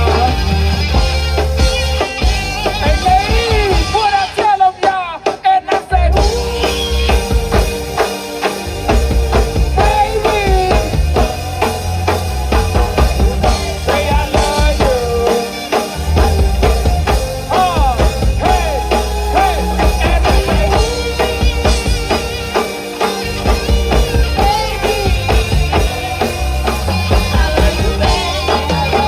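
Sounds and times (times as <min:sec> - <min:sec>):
bending lead guitar line: 0:00.0 - 0:29.0
drum kit beat: 0:00.0 - 0:29.0
rock band playing: 0:00.0 - 0:29.0.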